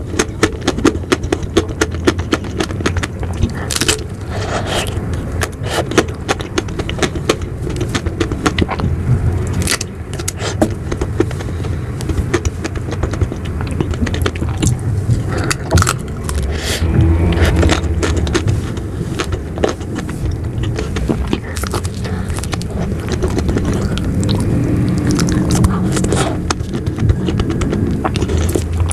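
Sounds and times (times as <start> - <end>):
mouth clicks eating ice cream: 0.0 - 28.9
steady low rumble: 0.0 - 28.9.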